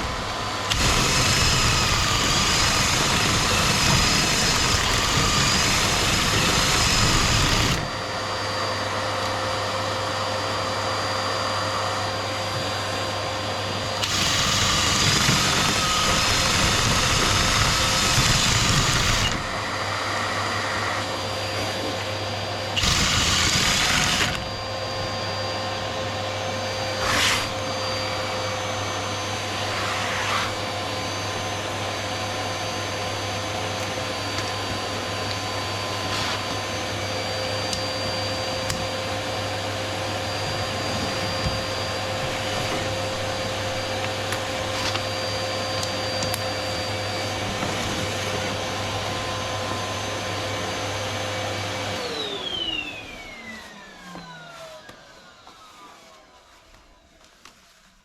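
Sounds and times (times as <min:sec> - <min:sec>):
vacuum motor humming: 0:00.0 - 0:56.3.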